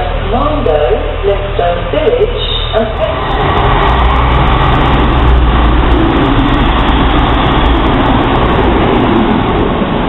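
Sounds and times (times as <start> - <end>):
diesel train moving along: 0.0 - 10.0.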